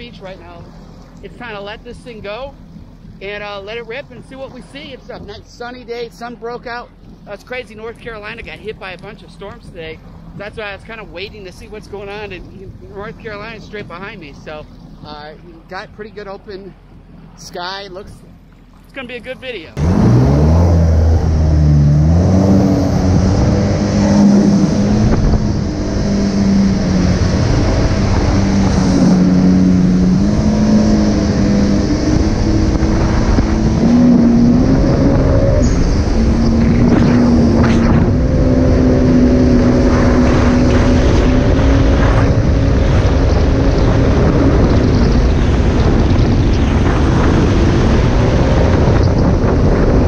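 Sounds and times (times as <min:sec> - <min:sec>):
rush of wind and water: 0:00.0 - 0:50.0
watercraft engine running hard: 0:00.0 - 0:50.0.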